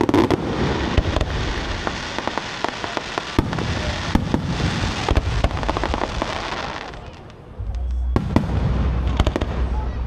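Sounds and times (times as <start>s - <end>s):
heavy firework booms: 0.0s - 7.0s, 8.2s - 10.0s
fireworks crackling bangs: 0.0s - 10.0s.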